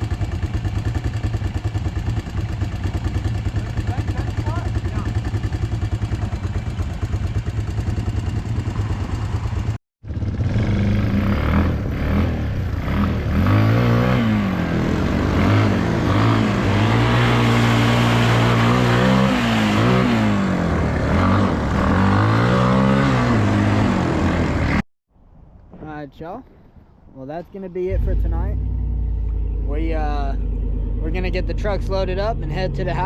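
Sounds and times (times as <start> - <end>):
atv engine revving: 0.0 - 24.8, 27.9 - 33.0.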